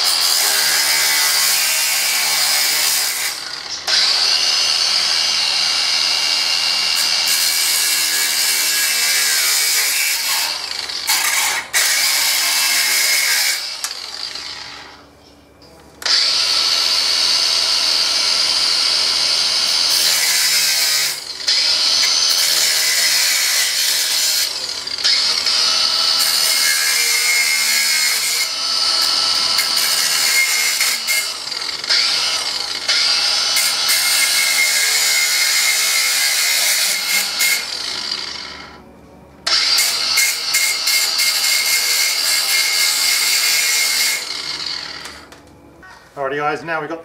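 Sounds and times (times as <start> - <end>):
power tool cutting steel mesh: 0.0 - 15.0, 16.0 - 38.8, 39.5 - 45.3.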